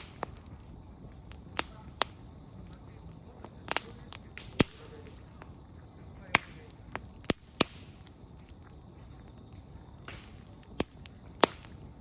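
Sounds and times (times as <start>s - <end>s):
burning wood sharp pops: 0.0s - 12.0s
campfire crackling: 0.0s - 12.0s
low steady fire hiss: 0.0s - 12.0s.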